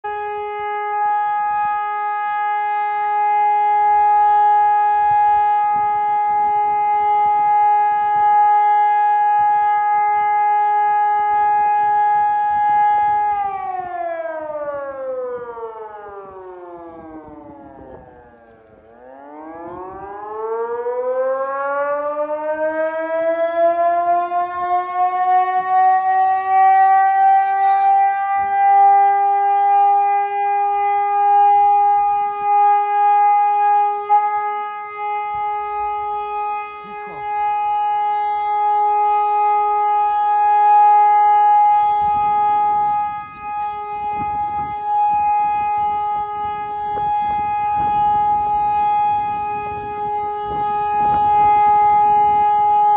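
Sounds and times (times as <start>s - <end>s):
wailing fire siren: 0.0s - 52.9s.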